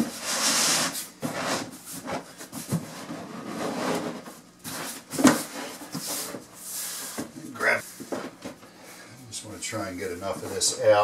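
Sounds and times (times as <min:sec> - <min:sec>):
vinyl flooring scraping and rustling: 0:00.0 - 0:08.6, 0:09.7 - 0:11.0.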